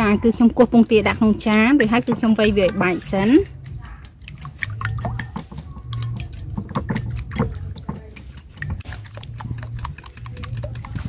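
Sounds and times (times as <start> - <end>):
whisk wires clicking against bowl: 0.0 - 11.0.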